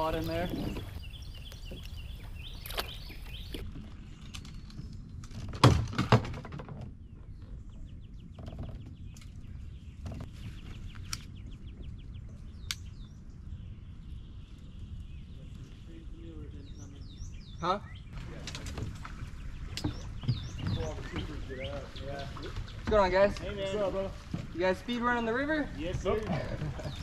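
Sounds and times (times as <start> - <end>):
small birds chirping: 0.0 - 5.2, 6.9 - 27.0.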